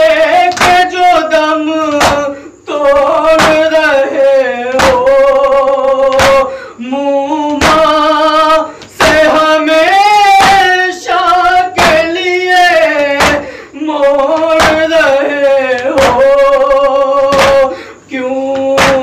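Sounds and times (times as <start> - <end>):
person singing mourning chant: 0.0 - 19.0.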